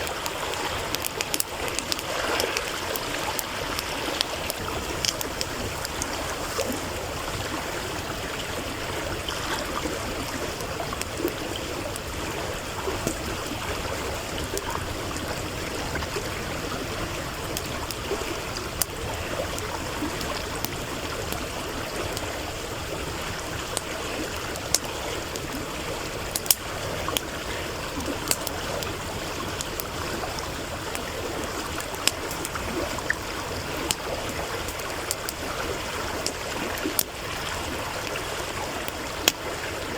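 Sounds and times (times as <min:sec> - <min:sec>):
campfire crackling and popping: 0:00.0 - 0:39.9
stream running: 0:00.0 - 0:39.9.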